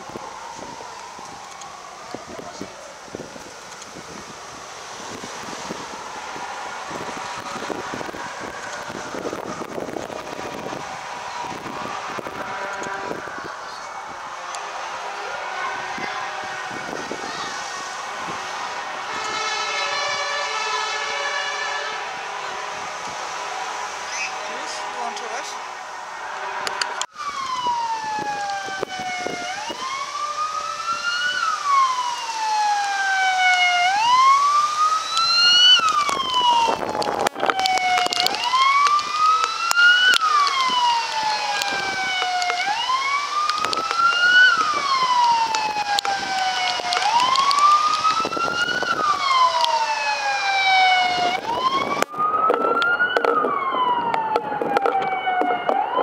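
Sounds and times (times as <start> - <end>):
fire engine sirens wailing: 0.0 - 56.0.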